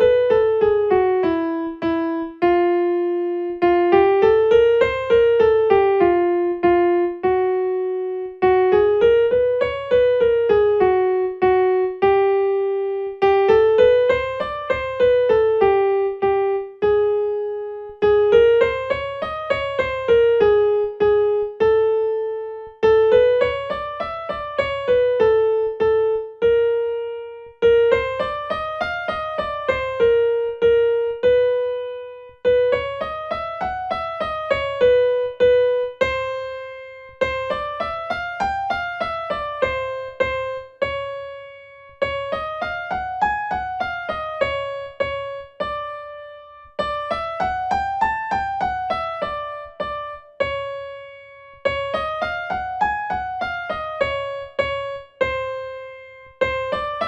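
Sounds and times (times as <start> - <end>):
piano scale exercise: 0.0 - 57.0.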